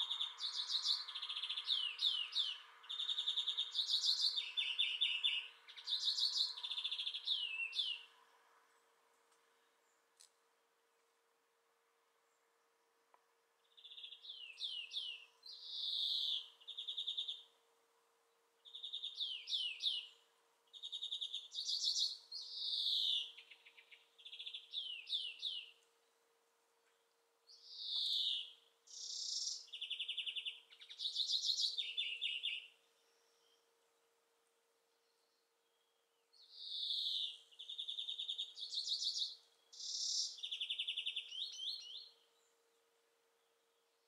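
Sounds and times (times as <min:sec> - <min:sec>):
songbird singing: 0:00.0 - 0:10.6, 0:11.9 - 0:44.0.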